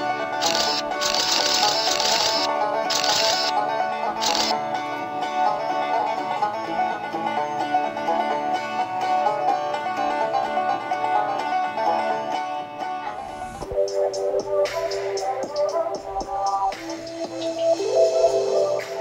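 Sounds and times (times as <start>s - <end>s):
upbeat country plucked strings music: 0.0s - 19.0s.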